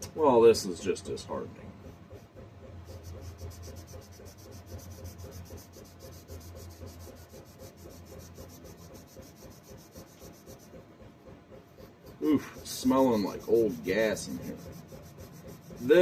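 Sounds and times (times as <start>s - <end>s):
hand scrubbing back and forth: 1.6s - 16.0s.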